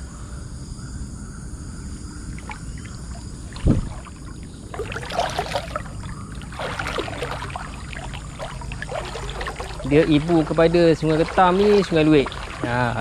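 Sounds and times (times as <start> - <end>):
hand splashing in water: 2.4 - 13.0.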